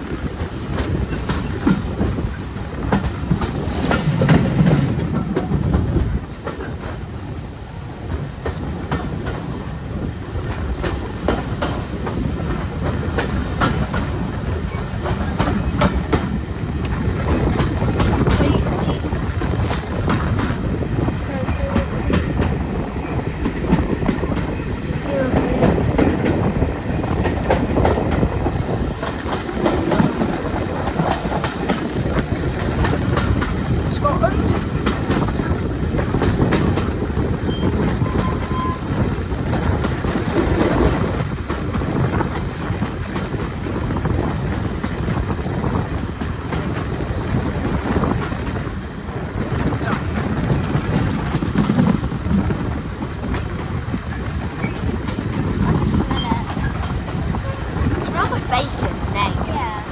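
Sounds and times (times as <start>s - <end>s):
train wheels rumbling and clicking: 0.0s - 59.9s.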